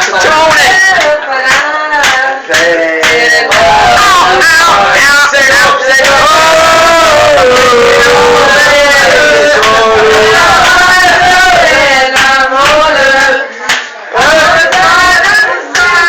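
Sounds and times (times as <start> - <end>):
man singing loudly: 0.0 - 13.4, 14.2 - 16.0.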